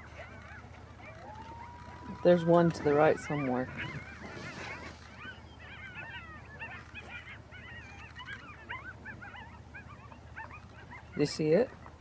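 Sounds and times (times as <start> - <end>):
coyotes yipping and howling: 0.0 - 12.0.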